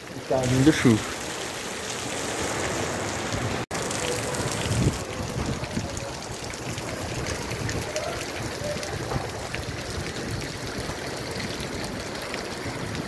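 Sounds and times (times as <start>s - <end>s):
heavy rain pouring: 0.0s - 13.0s
raindrops ticking close by: 0.0s - 13.0s.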